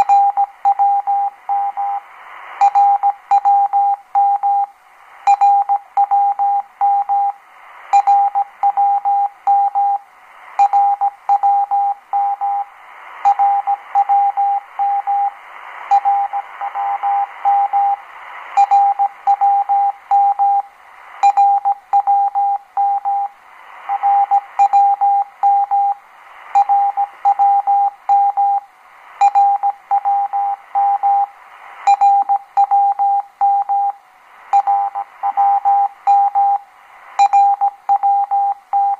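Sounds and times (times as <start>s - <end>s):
shortwave radio hiss: 0.0s - 38.6s.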